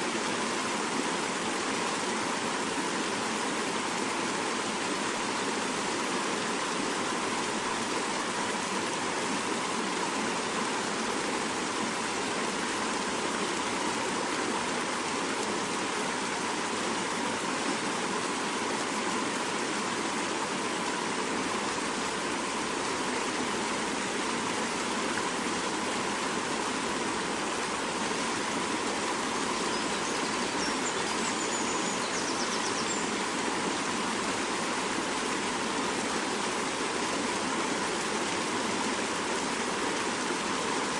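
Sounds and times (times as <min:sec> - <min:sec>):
river rushing: 0:00.0 - 0:40.9.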